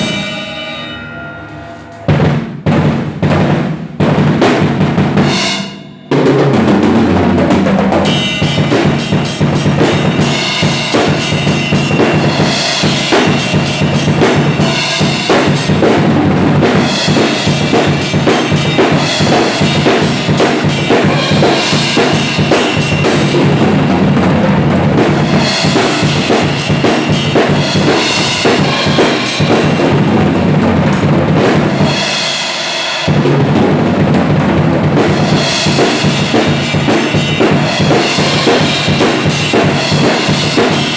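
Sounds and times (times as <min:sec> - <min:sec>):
drum kit playing: 0:00.0 - 0:40.9.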